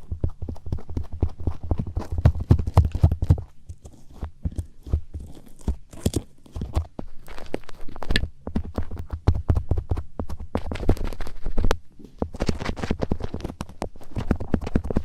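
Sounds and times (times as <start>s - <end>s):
tapping and scratching on figure: 0.0s - 15.0s.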